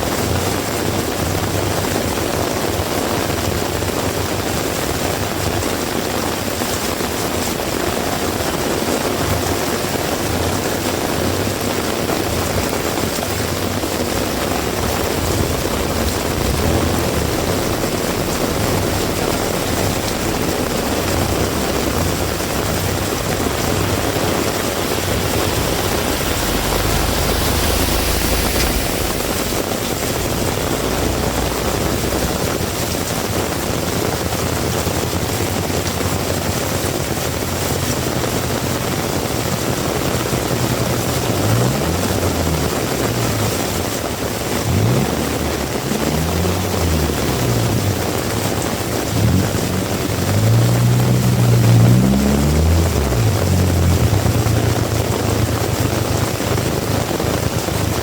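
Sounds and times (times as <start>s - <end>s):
heavy rain falling: 0.0s - 58.0s
vehicle engine running: 0.0s - 58.0s.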